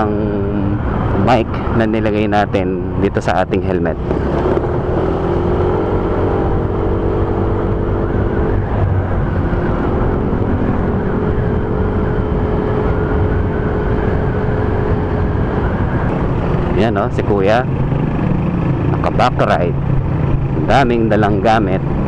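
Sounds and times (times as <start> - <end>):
motorcycle engine hum: 0.0 - 22.0
road rumble: 0.0 - 22.0
wind rush: 2.9 - 22.0.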